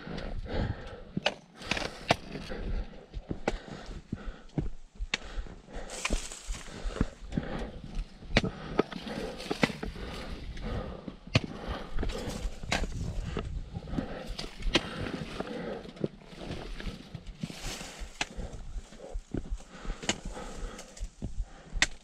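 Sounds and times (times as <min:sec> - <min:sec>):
footsteps on stone steps: 0:00.0 - 0:22.0
trekking pole clicking on stone: 0:00.2 - 0:02.6, 0:03.2 - 0:22.0.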